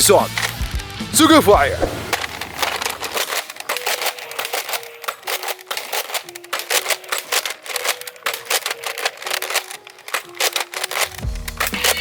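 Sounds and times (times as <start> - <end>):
toy gun clicking: 0.0 - 0.9, 1.8 - 12.0.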